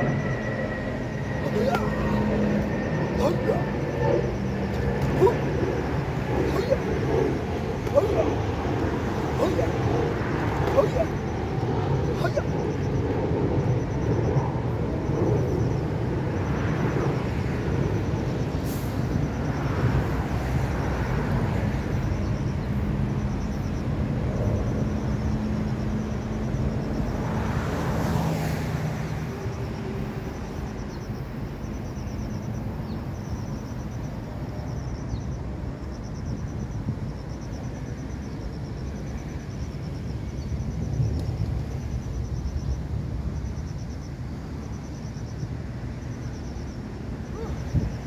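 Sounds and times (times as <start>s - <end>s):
cars passing: 0.0s - 48.0s
road traffic rumble: 0.0s - 48.0s.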